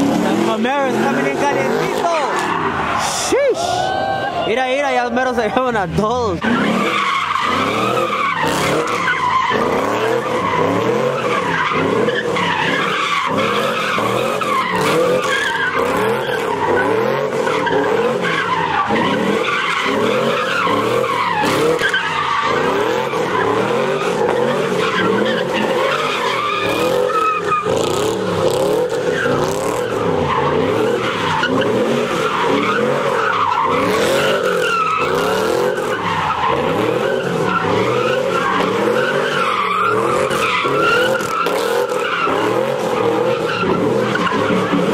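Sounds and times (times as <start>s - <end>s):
car engine revving: 0.0s - 3.7s, 4.5s - 44.9s
tyres squealing on pavement: 0.0s - 44.9s.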